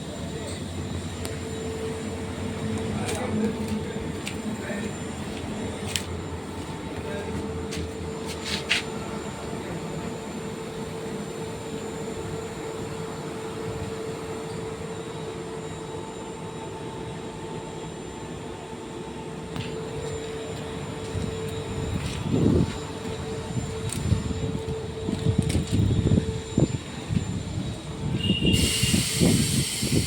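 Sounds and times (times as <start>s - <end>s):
air compressor hum and whine: 0.0s - 30.0s.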